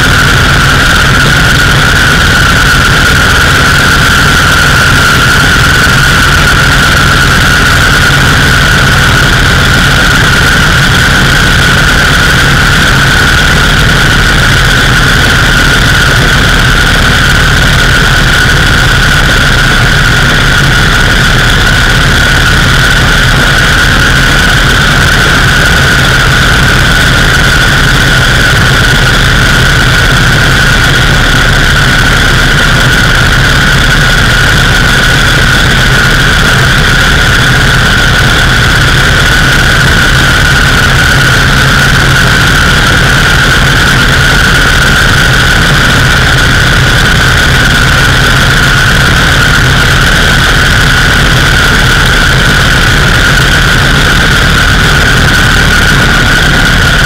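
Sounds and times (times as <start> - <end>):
high-pitched whine: 0.0 - 57.0
motorcycle engine running steadily: 0.0 - 57.0.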